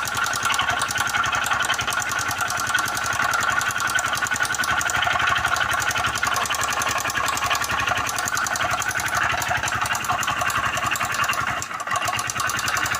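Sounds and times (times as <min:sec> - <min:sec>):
motorcycle engine knocking: 0:00.0 - 0:12.9.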